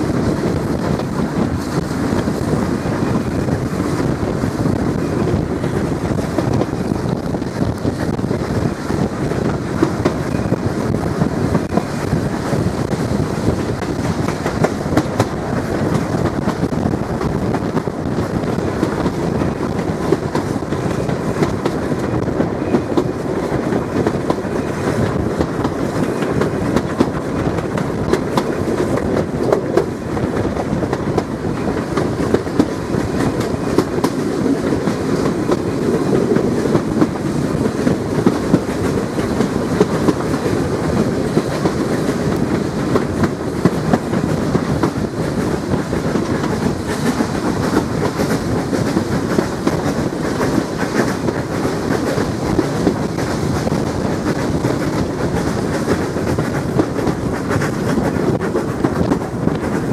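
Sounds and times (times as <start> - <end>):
train wheels rumbling on rails: 0.0 - 59.9
wheels clacking over rail joints: 0.0 - 59.9.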